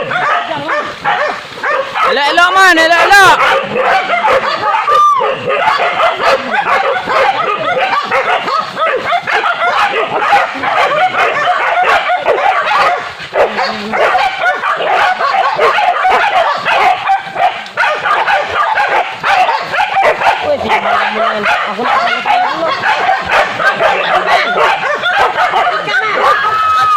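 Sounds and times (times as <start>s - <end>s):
dogs barking and yelping: 0.0s - 26.9s.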